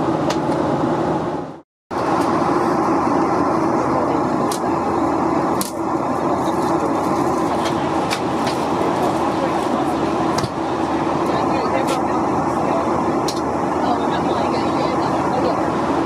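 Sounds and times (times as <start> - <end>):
airplane cabin noise: 0.0 - 16.0.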